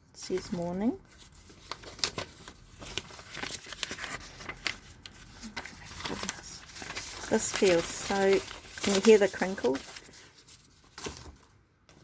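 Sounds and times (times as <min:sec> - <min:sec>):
old paper crinkling and rustling: 0:00.2 - 0:12.0.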